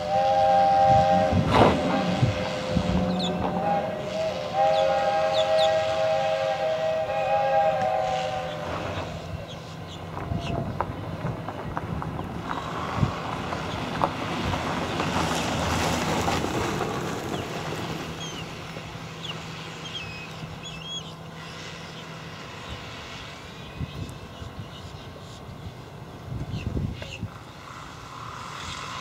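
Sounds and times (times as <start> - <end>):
rushing noise: 0.0 - 24.4.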